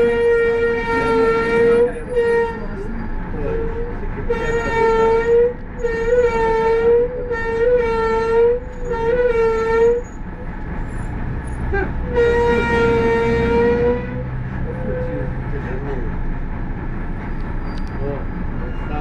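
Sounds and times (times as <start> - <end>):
brake pads squealing: 0.0 - 16.2, 17.2 - 19.0
engine rumble: 0.0 - 19.0.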